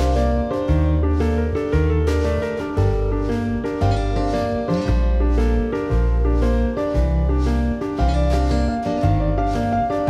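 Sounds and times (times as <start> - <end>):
bass line: 0.0 - 10.0
held chords: 0.0 - 10.0.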